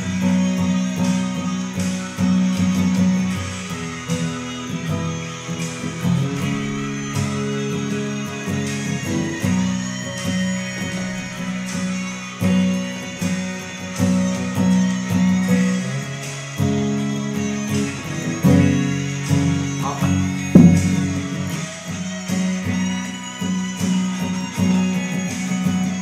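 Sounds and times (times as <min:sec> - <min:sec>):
guitar chords: 0:00.0 - 0:26.0.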